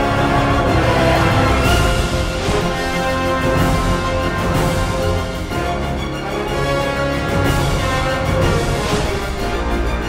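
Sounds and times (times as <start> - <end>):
orchestral trailer music: 0.0 - 10.0.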